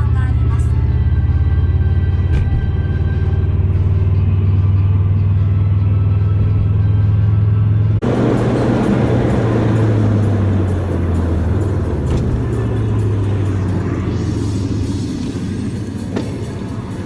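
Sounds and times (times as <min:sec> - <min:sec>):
car engine drone: 0:00.0 - 0:17.0
rushing road noise: 0:00.0 - 0:17.0.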